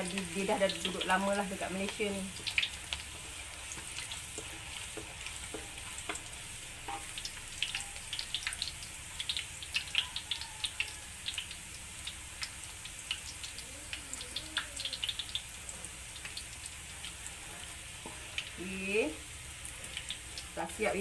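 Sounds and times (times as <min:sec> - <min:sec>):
chillies sizzling in hot oil: 0:00.0 - 0:21.0.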